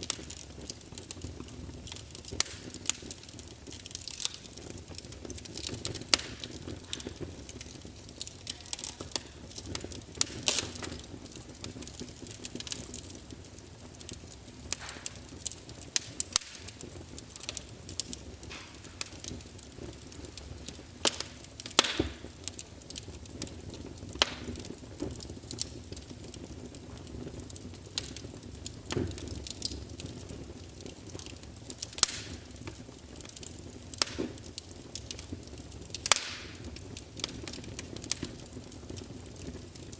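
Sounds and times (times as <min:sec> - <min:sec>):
fire crackles and pops: 0:00.0 - 0:39.9
low rumble of flame: 0:00.0 - 0:39.9.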